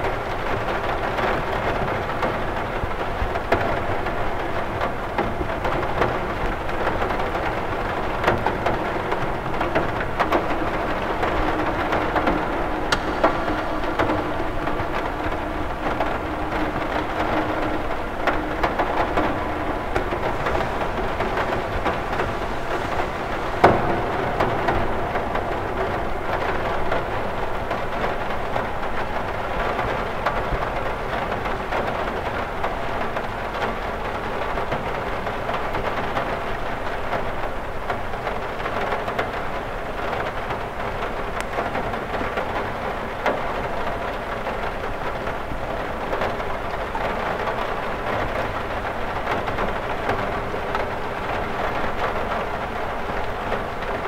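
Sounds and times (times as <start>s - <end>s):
rain pattering on window: 0.0s - 54.0s.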